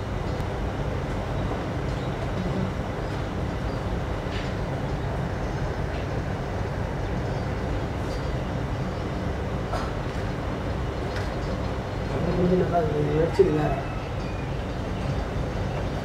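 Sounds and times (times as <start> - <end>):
low mechanical rumble and hum: 0.0 - 16.0.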